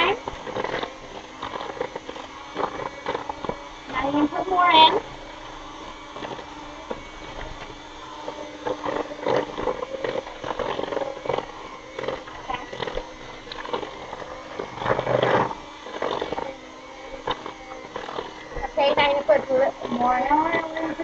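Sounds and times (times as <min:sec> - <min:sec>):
electric hand mixer running: 0:00.0 - 0:21.0.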